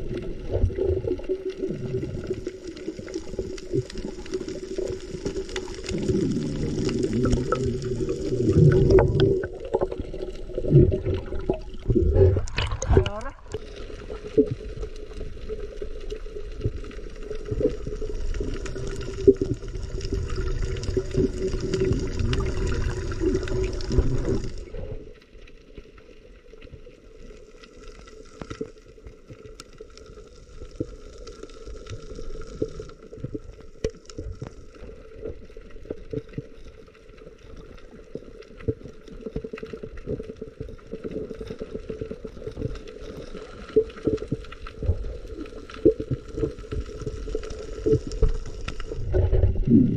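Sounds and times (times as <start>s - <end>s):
underwater clicks and crackles: 0.0s - 49.9s
water sloshing and gurgling: 0.0s - 49.9s.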